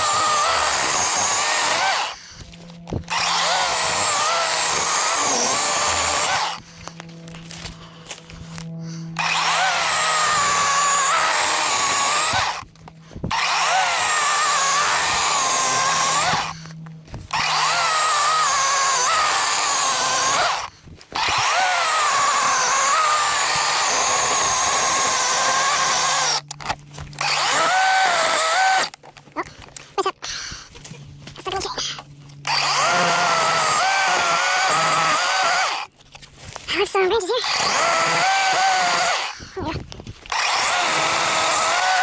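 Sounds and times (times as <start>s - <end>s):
electric chainsaw cutting wood: 0.0s - 31.6s, 32.3s - 36.7s, 37.4s - 42.0s.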